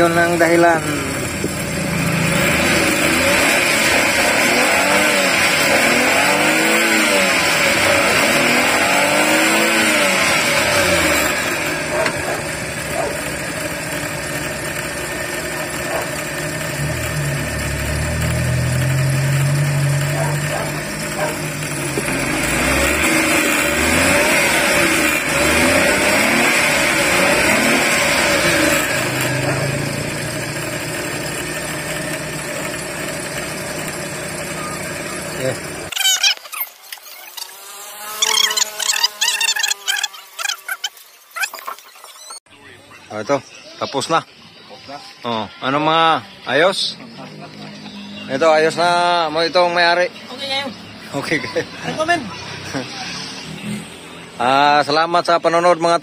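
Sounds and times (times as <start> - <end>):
car engine revving: 0.0 - 42.4, 45.6 - 56.0.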